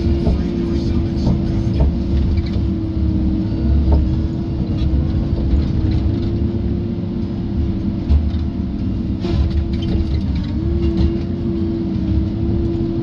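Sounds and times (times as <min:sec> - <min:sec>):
heavy low engine rumble: 0:00.0 - 0:13.0
steady whine: 0:00.0 - 0:13.0.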